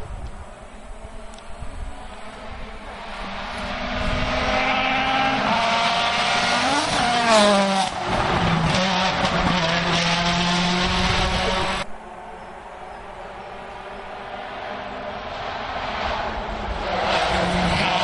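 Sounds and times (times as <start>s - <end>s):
rally car passing at speed: 1.9s - 18.0s.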